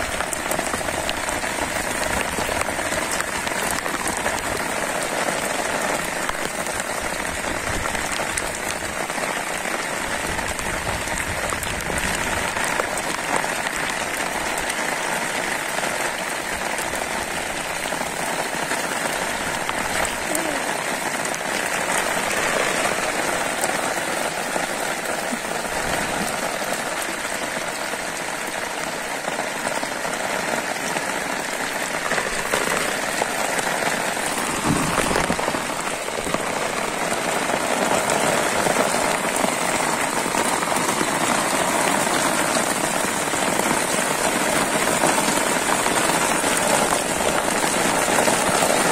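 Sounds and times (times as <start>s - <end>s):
rain falling on water: 0.0s - 48.9s.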